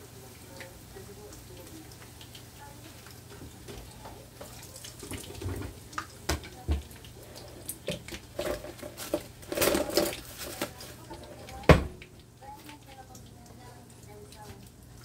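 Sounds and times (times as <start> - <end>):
hot oil sizzling and popping: 0.0 - 15.0.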